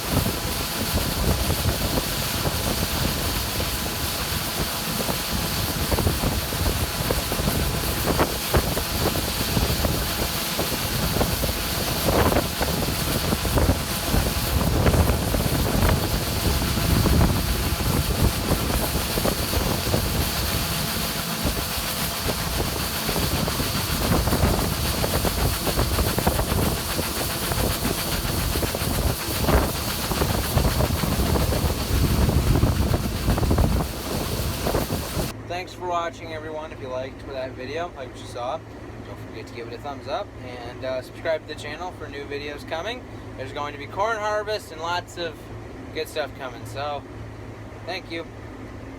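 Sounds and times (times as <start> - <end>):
farm machinery rumble and hiss: 0.0 - 47.1.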